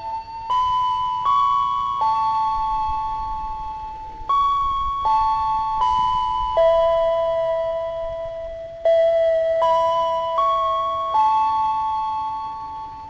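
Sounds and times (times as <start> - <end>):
electronic bell-like chime melody: 0.0 - 13.0.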